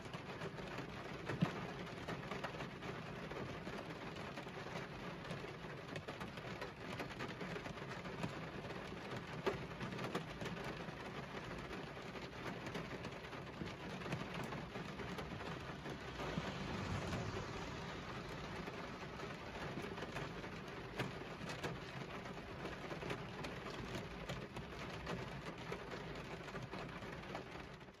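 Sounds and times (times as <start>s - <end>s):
heavy rain on car window: 0.0s - 28.0s
raindrops tapping on glass: 0.1s - 28.0s.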